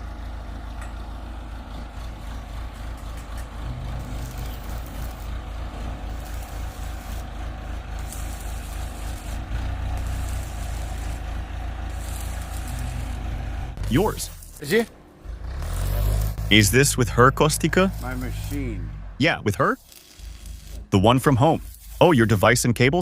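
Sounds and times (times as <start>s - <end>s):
large vehicle engine rumbling: 0.0s - 21.1s.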